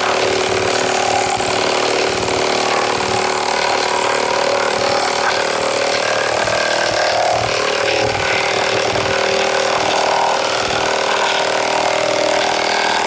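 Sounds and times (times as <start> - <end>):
impact wrench hammering: 0.0 - 13.0.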